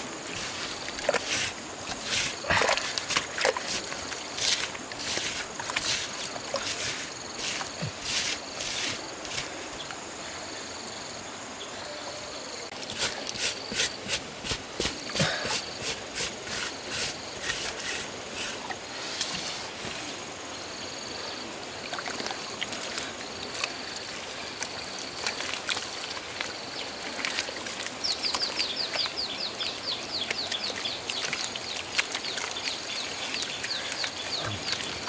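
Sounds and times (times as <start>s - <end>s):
mud being dug and sloshed: 0.0s - 10.0s, 12.7s - 35.0s.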